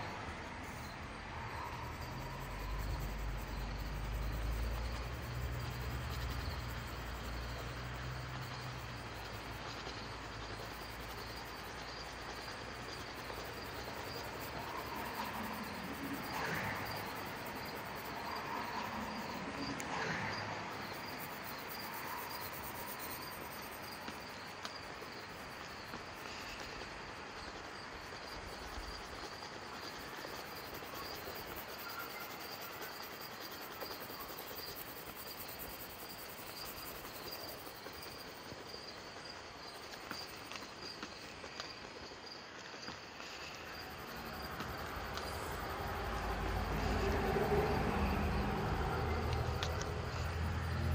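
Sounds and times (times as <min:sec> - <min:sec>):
background hiss: 0:00.0 - 0:50.9
crickets chirping: 0:00.0 - 0:50.9.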